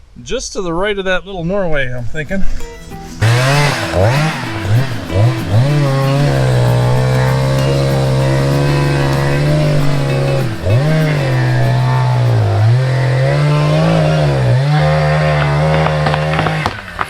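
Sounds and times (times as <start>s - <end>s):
chainsaw cutting through trunk: 3.0s - 17.0s.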